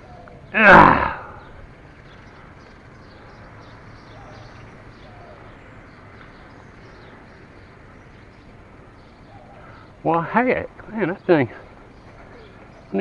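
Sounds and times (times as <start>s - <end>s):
birds chirping: 0.0s - 13.0s
low outdoor background hum: 0.0s - 13.0s.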